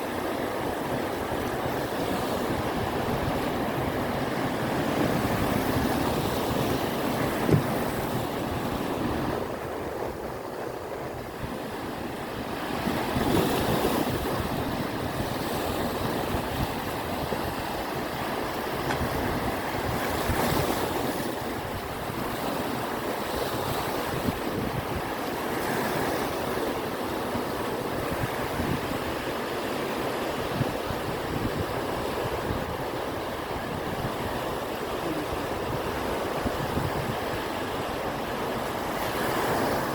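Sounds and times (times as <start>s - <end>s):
sea waves washing onto shore: 0.0s - 39.9s
wind buffeting microphone: 0.0s - 39.9s.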